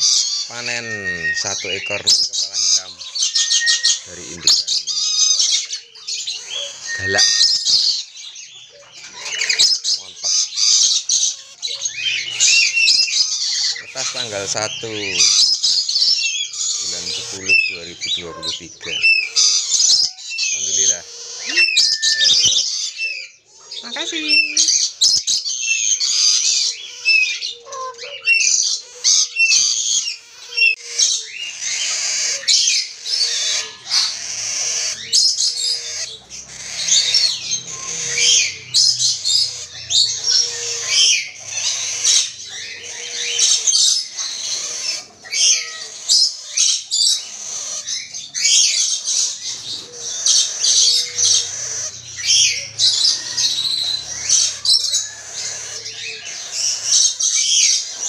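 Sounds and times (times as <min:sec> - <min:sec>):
birds chirping and squawking: 0:00.0 - 0:58.0.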